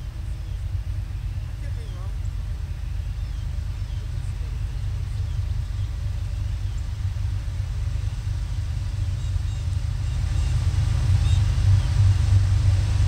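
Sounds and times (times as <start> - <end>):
freight train locomotive rumble: 0.0 - 13.0.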